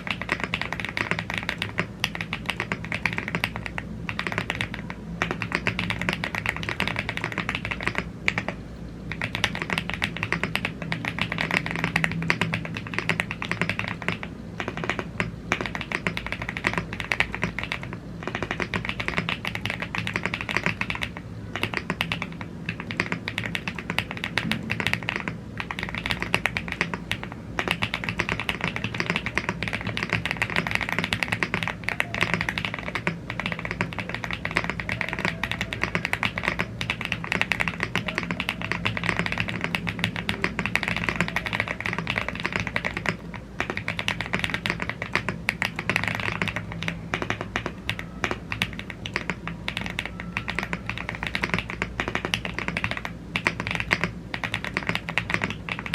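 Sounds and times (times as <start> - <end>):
fast typing on mechanical keyboard: 0.0 - 55.9.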